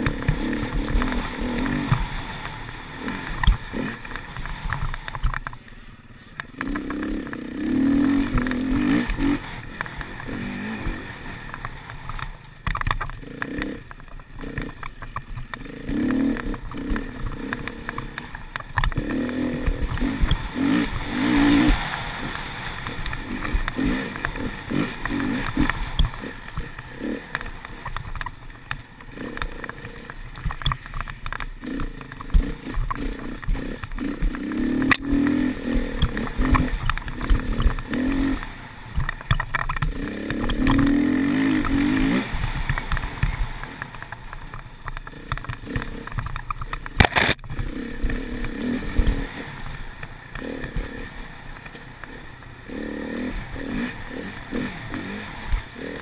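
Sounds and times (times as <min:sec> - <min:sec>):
dirt bike engine revving: 0:00.0 - 0:05.4, 0:06.0 - 0:56.0.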